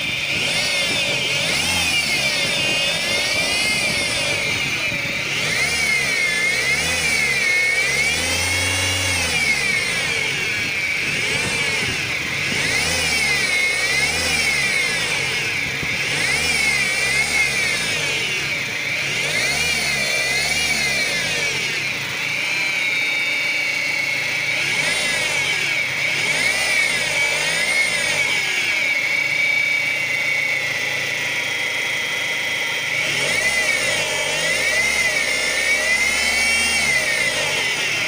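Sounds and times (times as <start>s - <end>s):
car engine running: 0.0s - 38.0s
power steering pump whining: 0.0s - 38.0s.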